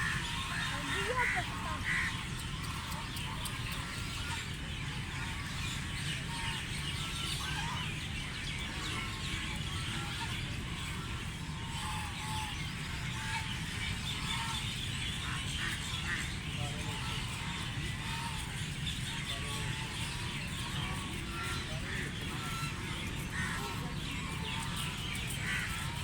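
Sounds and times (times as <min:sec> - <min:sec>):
ducks calling: 0:00.0 - 0:26.0.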